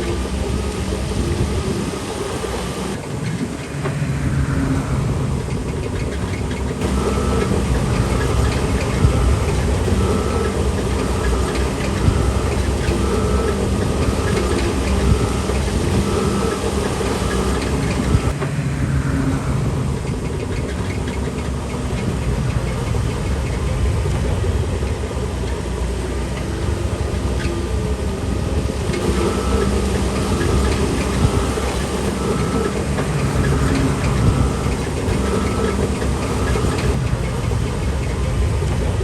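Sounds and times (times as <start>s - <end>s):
bulldozer diesel engine running: 0.0s - 39.0s
track clatter: 0.0s - 39.0s.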